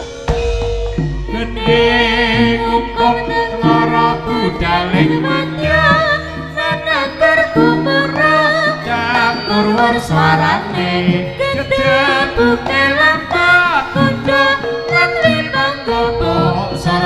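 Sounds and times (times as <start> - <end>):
high wavering melody: 0.0 - 17.0
percussion ensemble: 0.0 - 17.0.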